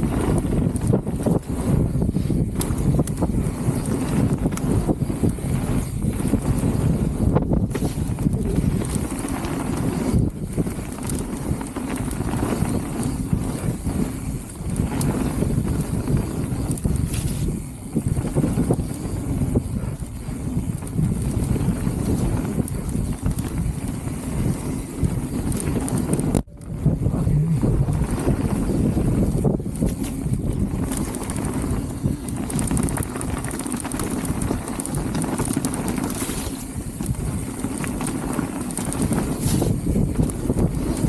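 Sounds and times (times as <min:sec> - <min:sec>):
mountain bike rattling on trail: 0:00.0 - 0:41.0
wind buffeting microphone: 0:00.0 - 0:41.0.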